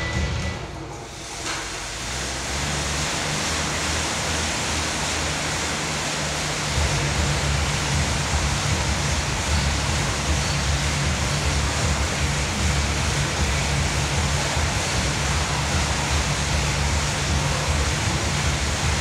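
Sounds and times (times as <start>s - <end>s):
exercise bike fan whooshing: 0.0s - 19.0s.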